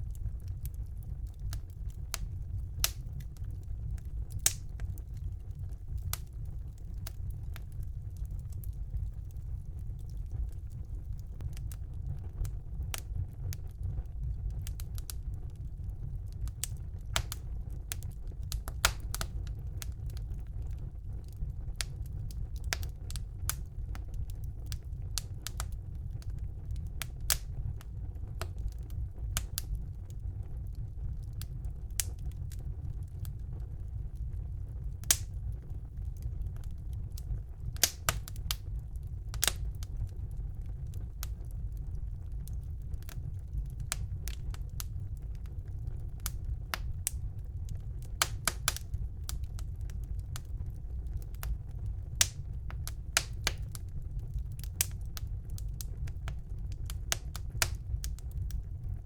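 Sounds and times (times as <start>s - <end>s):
fire rumbling: 0.0s - 59.0s
logs crackling and popping: 0.0s - 59.0s.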